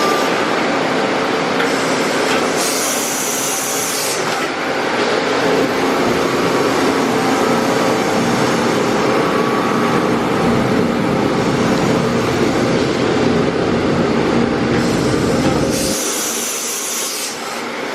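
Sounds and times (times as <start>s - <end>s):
machine mechanical hum: 0.0s - 17.9s.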